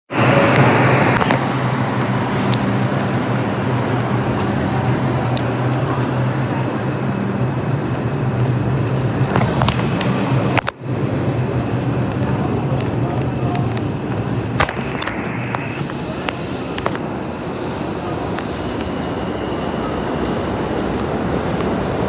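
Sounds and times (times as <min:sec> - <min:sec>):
subway station hum and rumble: 0:00.1 - 0:22.0.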